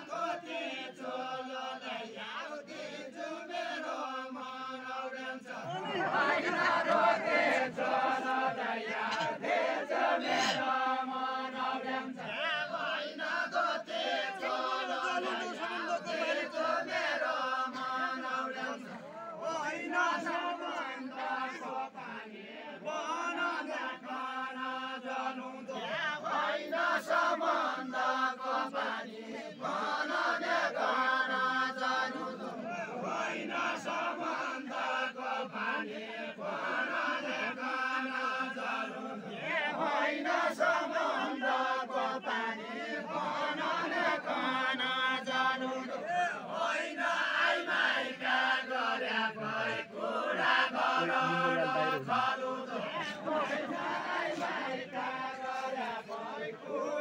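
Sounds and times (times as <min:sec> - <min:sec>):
men singing a chanted folk song: 0:00.0 - 0:57.0.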